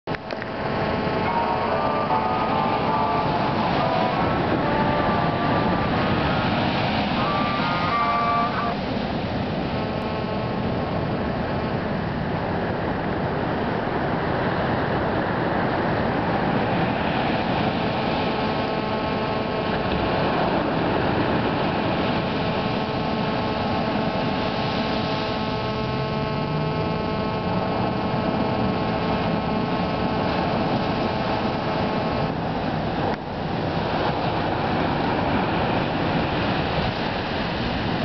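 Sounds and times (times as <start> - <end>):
wind: 0.0 - 38.0
steady hum of tones: 0.1 - 38.0
surf washing: 0.1 - 38.0.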